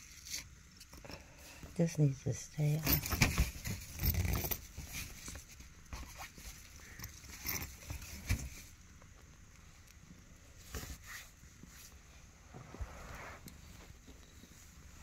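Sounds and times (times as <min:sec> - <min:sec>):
soft rustling: 0:02.8 - 0:15.0.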